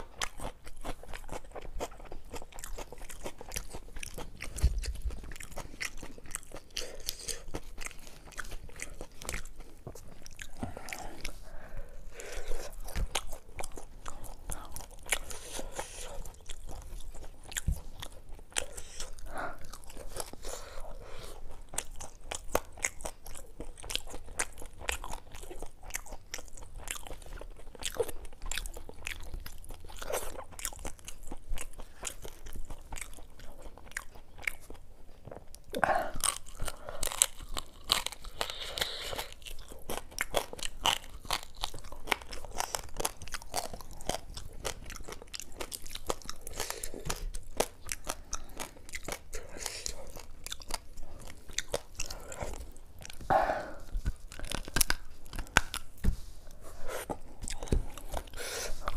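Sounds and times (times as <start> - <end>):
crunching and chewing: 0.0 - 58.9.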